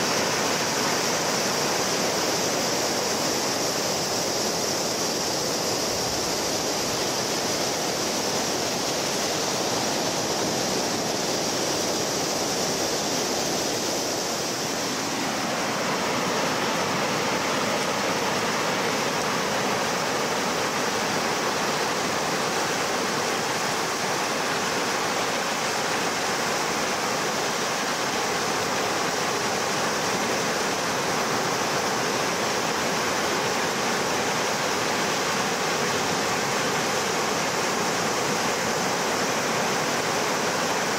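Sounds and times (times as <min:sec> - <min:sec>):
small waves breaking on sand: 0:00.0 - 0:40.9.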